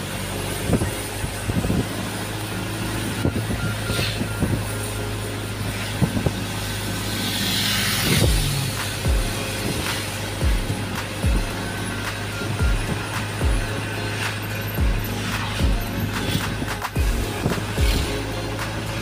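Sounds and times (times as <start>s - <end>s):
diesel engine humming: 0.0s - 19.0s
hiss: 0.0s - 19.0s
road and tyre noise: 0.0s - 19.0s.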